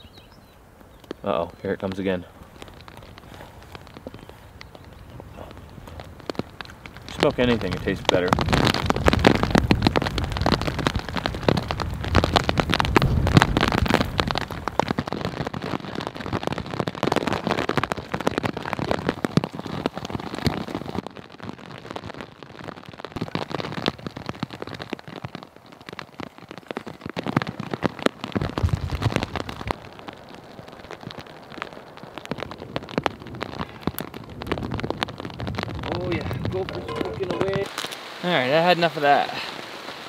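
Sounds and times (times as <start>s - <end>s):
raindrops hitting a jacket: 0.0s - 40.0s
steady rain falling: 0.0s - 40.0s.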